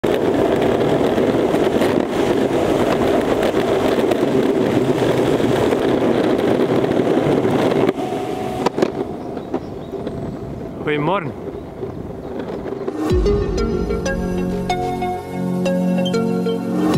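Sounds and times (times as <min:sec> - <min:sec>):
longboard wheels rumbling on asphalt: 0:00.0 - 0:16.9.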